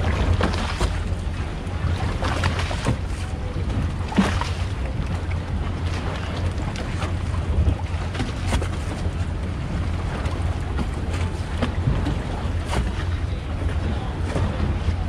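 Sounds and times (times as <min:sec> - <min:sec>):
motorboat engine rumble: 0:00.0 - 0:15.0
water wash: 0:00.0 - 0:15.0.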